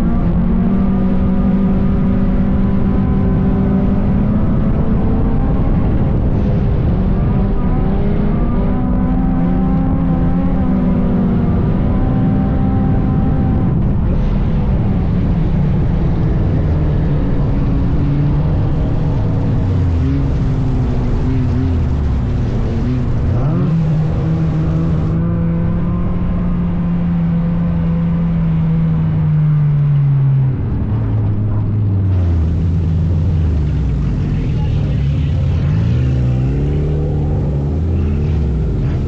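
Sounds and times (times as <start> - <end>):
race car engine running hard: 0.0 - 39.0.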